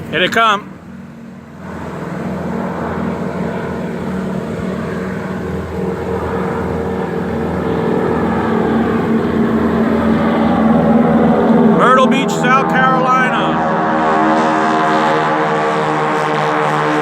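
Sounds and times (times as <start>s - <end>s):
propeller planes droning: 0.0s - 17.0s.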